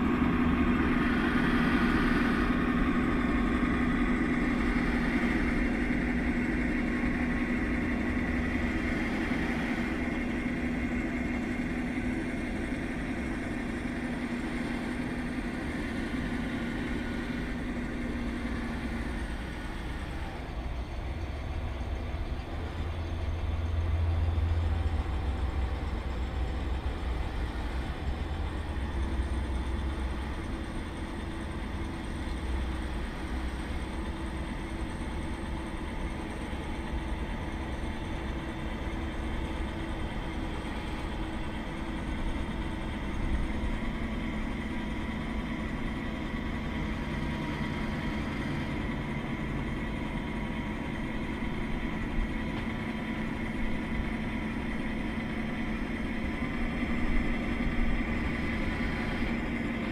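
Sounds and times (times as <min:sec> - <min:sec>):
low engine rumble: 0:00.0 - 0:59.9
toy tractor whine: 0:00.0 - 0:59.9.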